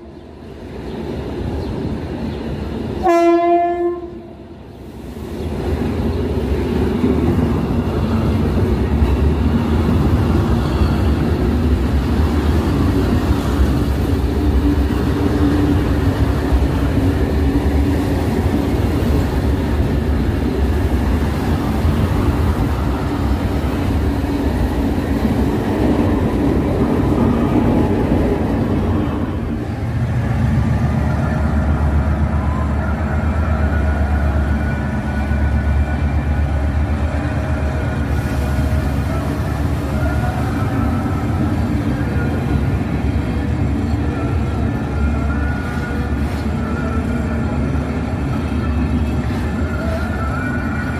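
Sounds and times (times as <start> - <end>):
train passing rumble: 0.0 - 50.9.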